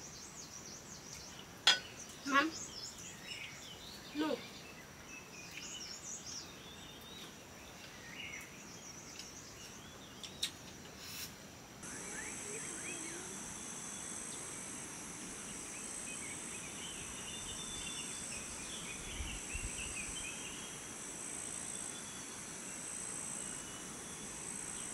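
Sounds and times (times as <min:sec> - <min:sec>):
high-pitched insect chorus: 0:00.0 - 0:24.9.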